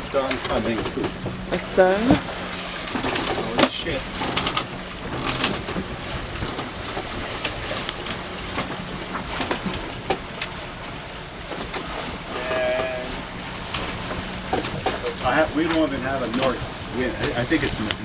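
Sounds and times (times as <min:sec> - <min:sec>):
boat knocking and creaking: 0:00.0 - 0:18.0
steady low hum: 0:00.0 - 0:18.0
wind and water rushing: 0:00.0 - 0:18.0.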